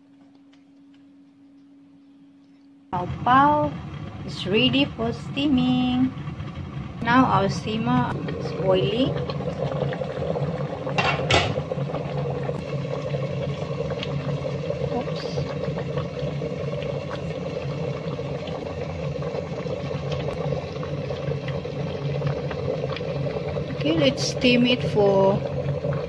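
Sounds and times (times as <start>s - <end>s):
water boiling in a pot: 3.0s - 26.0s.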